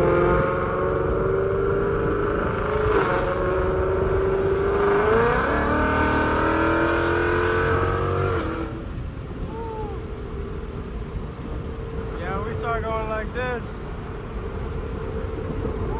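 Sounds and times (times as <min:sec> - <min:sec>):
car engine accelerating hard: 0:00.0 - 0:15.9.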